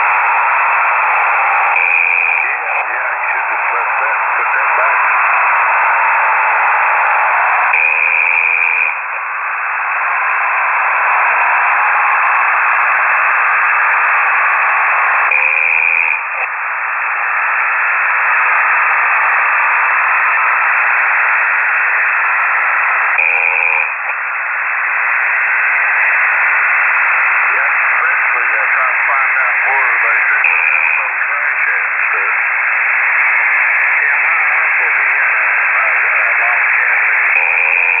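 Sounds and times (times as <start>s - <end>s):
radio hiss: 0.0s - 38.0s.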